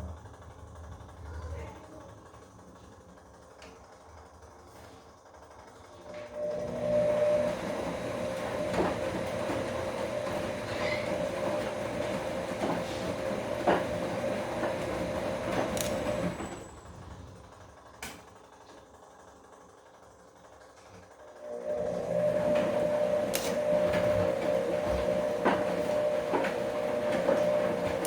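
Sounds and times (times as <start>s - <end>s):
washing machine motor whine: 0.0s - 28.0s.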